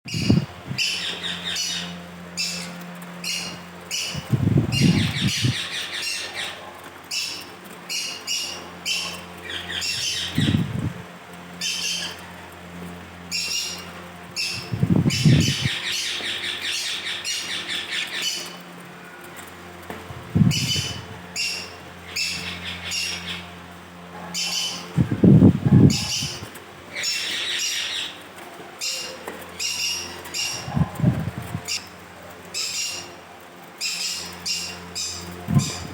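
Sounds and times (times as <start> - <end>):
steady low hum: 0.0 - 35.9
parakeets squawking and chattering: 0.1 - 35.9.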